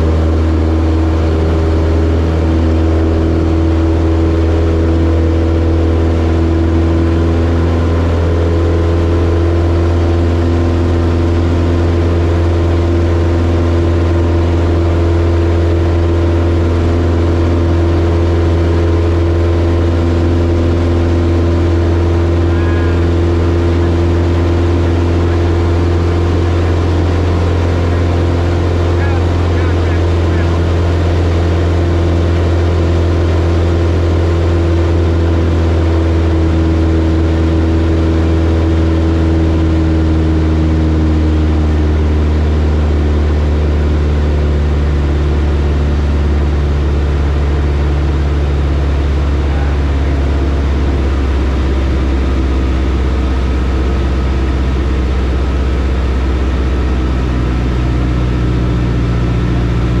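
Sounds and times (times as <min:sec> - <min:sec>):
light aircraft engine droning: 0:00.0 - 1:00.0.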